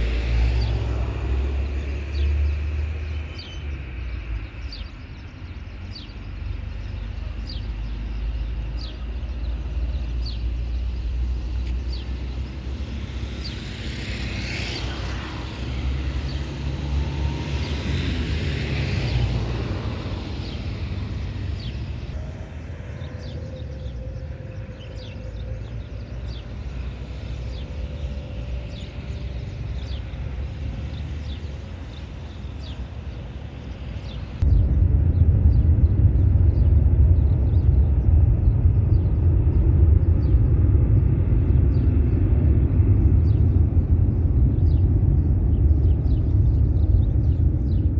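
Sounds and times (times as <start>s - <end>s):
jet engines at takeoff: 0.0s - 47.9s.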